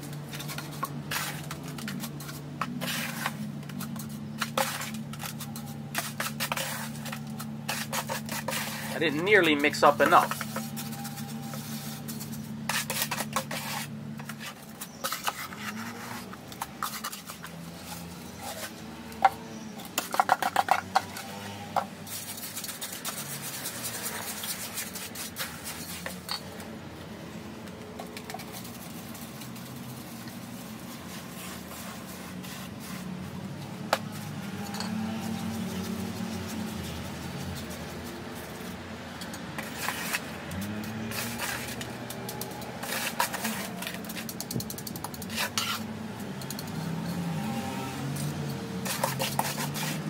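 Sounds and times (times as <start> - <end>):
hand tool scraping a container: 0.3 - 26.4, 28.2 - 50.0.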